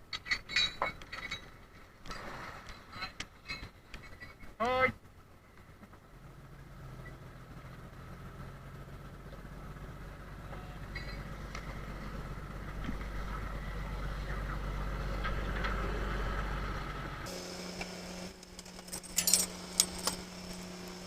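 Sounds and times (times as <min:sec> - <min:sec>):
boat engine humming: 0:01.4 - 0:21.0.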